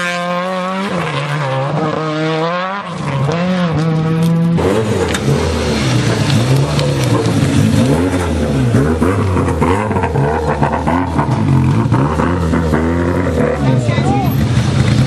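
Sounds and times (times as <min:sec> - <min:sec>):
rally car engine revving hard: 0:00.0 - 0:15.0.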